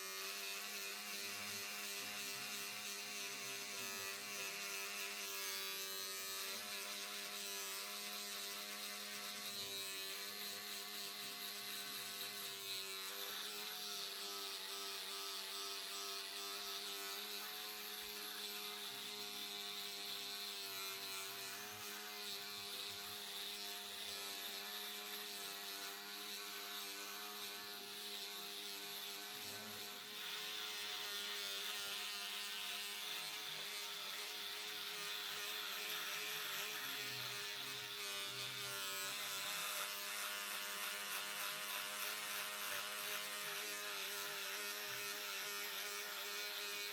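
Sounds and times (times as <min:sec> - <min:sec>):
electric hair clipper buzzing: 0:00.0 - 0:46.9.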